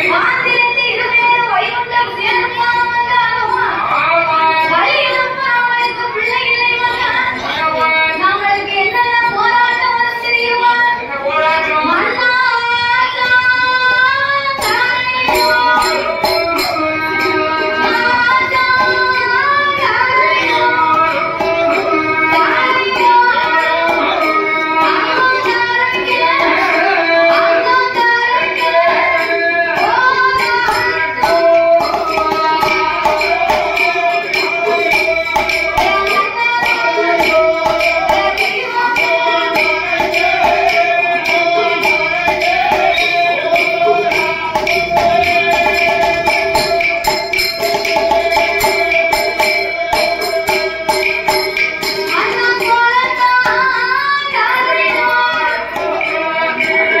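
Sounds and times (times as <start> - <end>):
fast steady percussion: 0.0 - 57.0
woman singing: 0.0 - 57.0.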